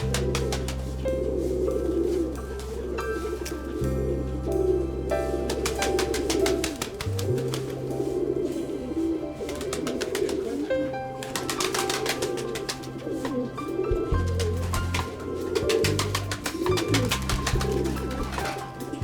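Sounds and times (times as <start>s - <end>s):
pigeons cooing: 0.0s - 4.2s, 5.6s - 19.0s.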